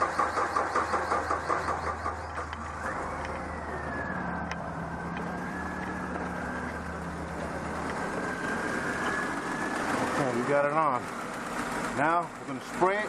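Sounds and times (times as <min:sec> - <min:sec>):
car engine idling: 0:00.0 - 0:13.0
steady whine: 0:00.0 - 0:13.0.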